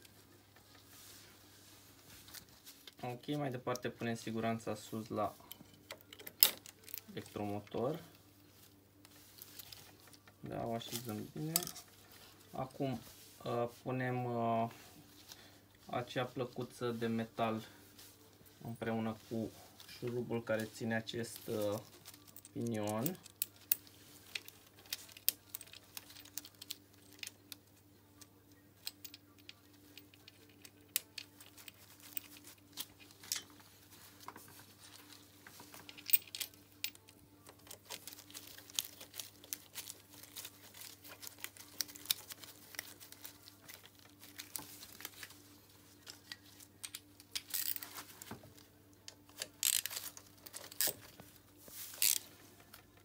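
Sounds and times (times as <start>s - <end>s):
faint steady hum: 0.0s - 53.0s
gloves rustling: 0.0s - 53.0s.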